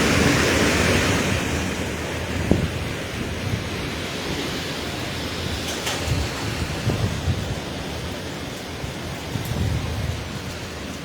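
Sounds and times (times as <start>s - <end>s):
storm wind and rain: 0.0s - 11.0s.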